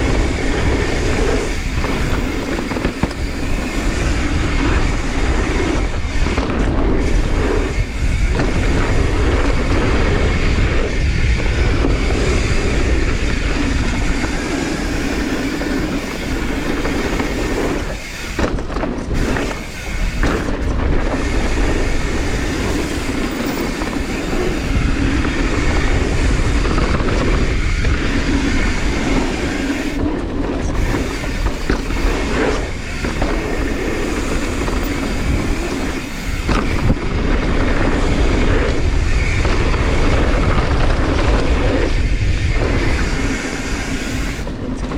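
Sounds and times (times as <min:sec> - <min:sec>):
bike rattling: 0:00.0 - 0:44.9
tyres rumbling over dirt: 0:00.0 - 0:44.9
wind buffeting microphone: 0:00.0 - 0:44.9.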